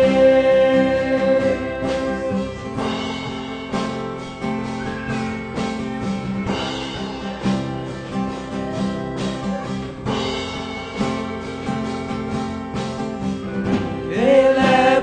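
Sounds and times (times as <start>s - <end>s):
guitar chords: 0.0s - 15.0s
steady drum beat: 0.0s - 15.0s.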